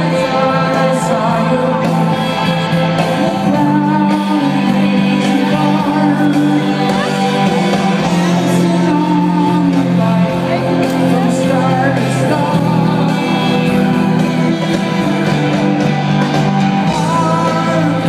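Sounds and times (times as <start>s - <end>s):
live rock band playing chords: 0.0s - 18.0s.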